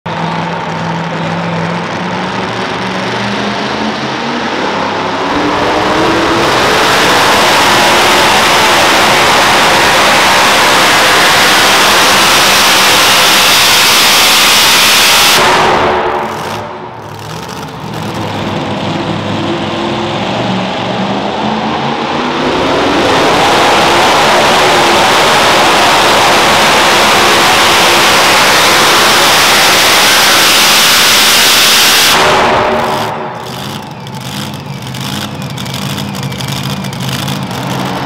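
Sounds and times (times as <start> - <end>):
truck engine revving: 0.1 - 38.0.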